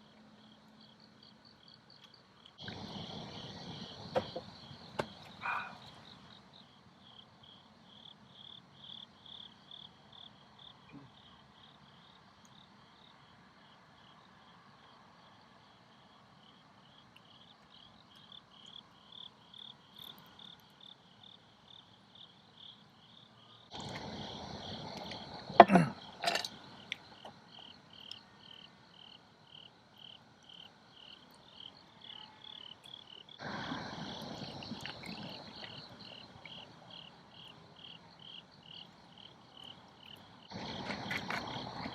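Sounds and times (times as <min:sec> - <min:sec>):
insects chirping: 0:00.0 - 0:41.9.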